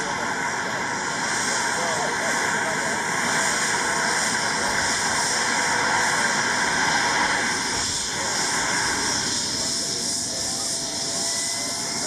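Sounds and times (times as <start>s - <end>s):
helicopter turbine and rotor noise: 0.0s - 12.0s.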